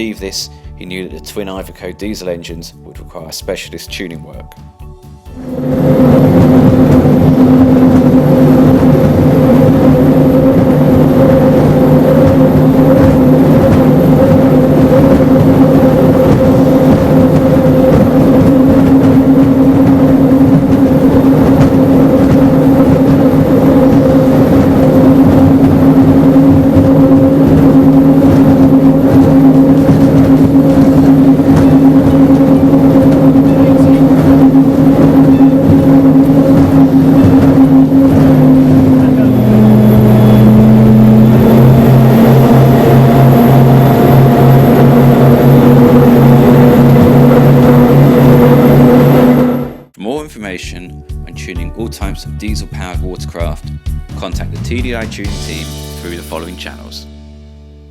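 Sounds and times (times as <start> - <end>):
powerboat engines droning: 0.0 - 2.6, 5.3 - 50.6, 54.5 - 57.0.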